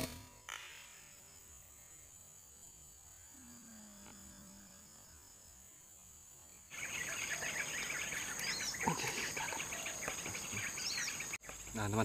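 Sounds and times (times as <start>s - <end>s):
insects and birds chirping: 0.0s - 12.0s.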